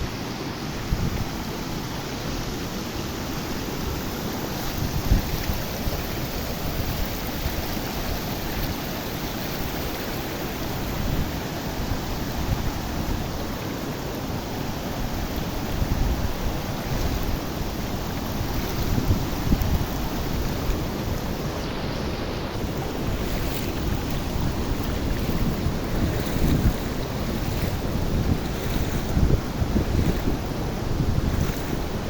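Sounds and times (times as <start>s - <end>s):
waterfall roaring: 0.0s - 32.0s
wind buffeting microphone: 0.7s - 2.7s, 3.6s - 32.0s.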